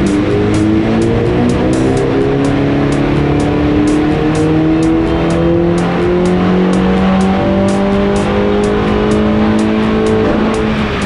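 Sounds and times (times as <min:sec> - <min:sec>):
background music with ticking beat: 0:00.0 - 0:11.0
car engine revving under load: 0:00.0 - 0:11.0.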